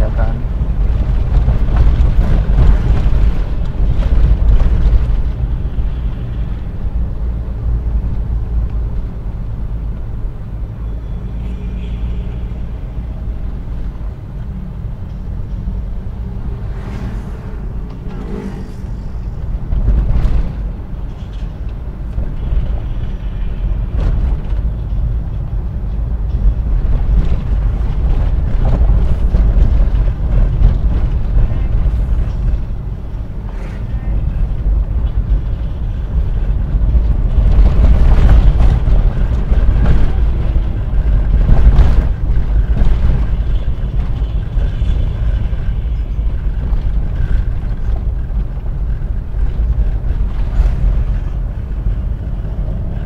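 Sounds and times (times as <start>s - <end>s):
engine and road noise in cab: 0.0s - 53.0s.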